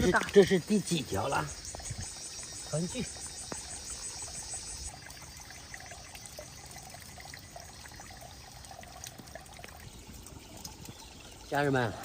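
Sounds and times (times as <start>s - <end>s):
insects trilling: 0.0s - 12.0s
stream trickling over stones: 0.0s - 12.0s.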